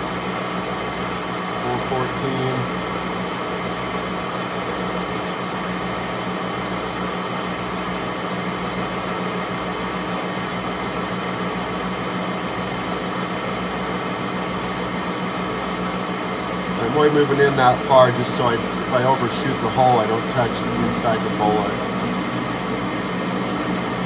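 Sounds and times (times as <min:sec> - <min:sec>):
metal lathe humming: 0:00.0 - 0:24.0.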